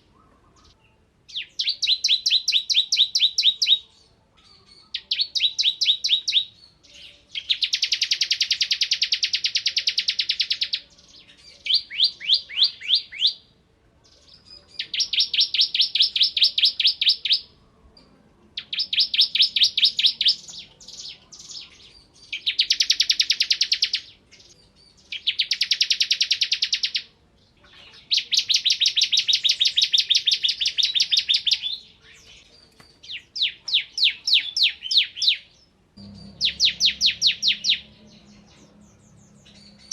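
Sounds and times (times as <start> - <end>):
bird singing rapid trills: 0.0 - 13.4, 14.6 - 17.5, 18.6 - 27.1, 27.7 - 39.9.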